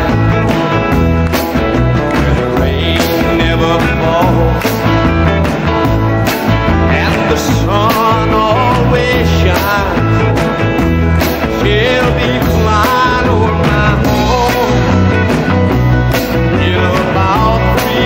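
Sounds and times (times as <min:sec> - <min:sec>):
bending electric guitar lines: 0:00.0 - 0:18.0
rockabilly band music: 0:00.0 - 0:18.0.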